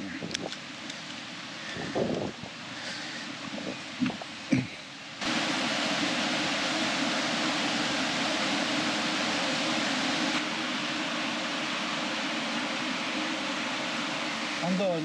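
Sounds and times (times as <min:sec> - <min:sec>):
falling water rushing: 0:01.5 - 0:15.0.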